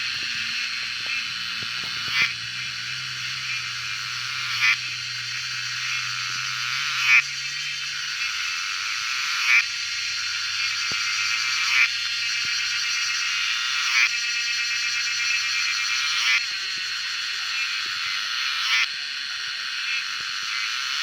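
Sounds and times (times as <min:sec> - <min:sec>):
frog croaking: 0:00.0 - 0:21.0.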